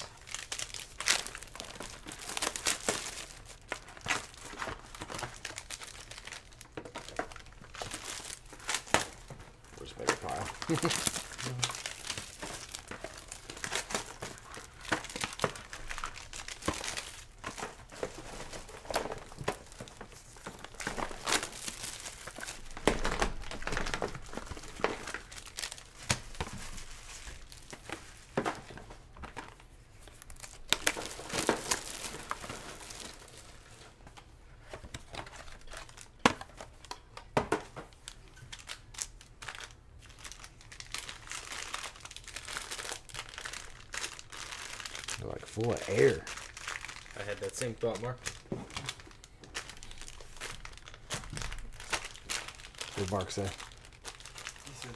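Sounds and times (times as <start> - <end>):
foil wrappers crinkling: 0.0 - 54.9.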